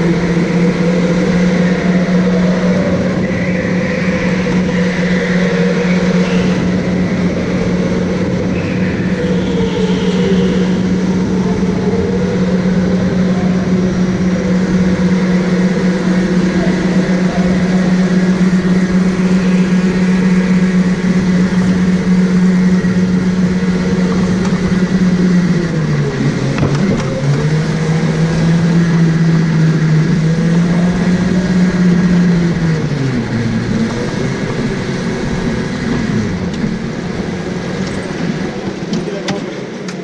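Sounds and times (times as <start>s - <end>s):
go-kart engine running: 0.0s - 40.0s.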